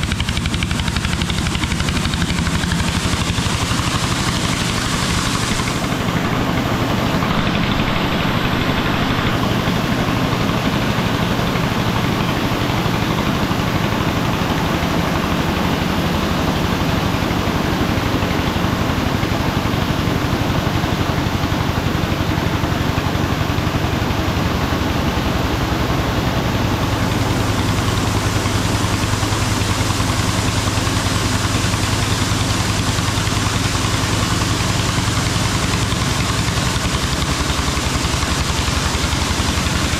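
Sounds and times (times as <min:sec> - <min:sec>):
small engine running: 0:00.0 - 0:39.9
grain pouring into hopper: 0:00.1 - 0:39.9.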